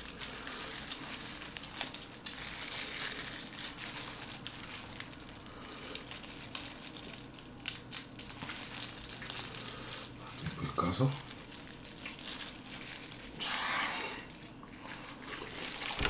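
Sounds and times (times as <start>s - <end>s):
wet crackling of shrimp shell: 0.0s - 13.4s.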